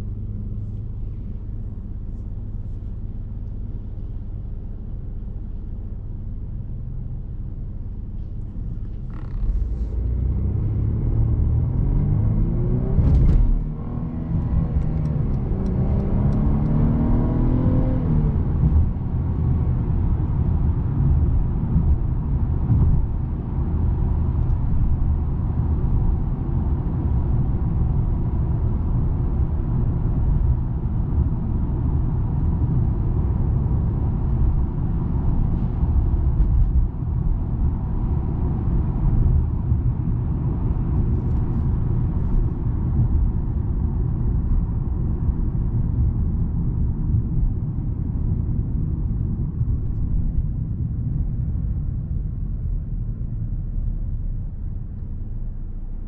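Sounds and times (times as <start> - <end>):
car engine rumble: 0.0 - 56.0
road noise: 0.0 - 56.0.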